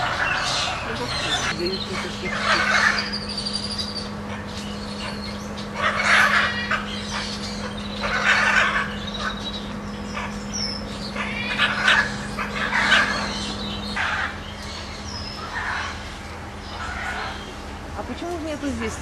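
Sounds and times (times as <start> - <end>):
harsh animal squawks: 0.0 - 17.5
steady low hum: 0.0 - 19.0.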